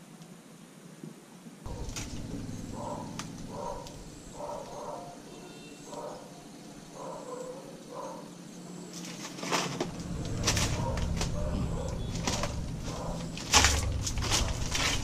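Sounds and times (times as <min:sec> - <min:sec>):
animal calling: 0:01.7 - 0:09.0, 0:09.8 - 0:15.0.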